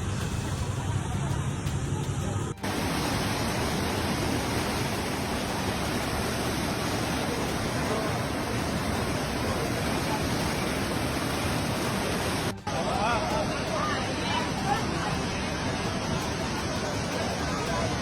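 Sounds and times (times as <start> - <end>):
floodwater rushing: 2.5 - 18.0.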